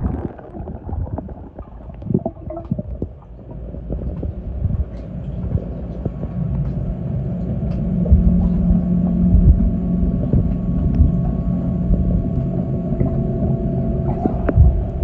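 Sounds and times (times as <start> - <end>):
underwater knocks: 0.0 - 6.9, 7.7 - 12.2, 13.0 - 15.0
steady low hum: 0.0 - 15.0
underwater water rumbling: 0.0 - 15.0.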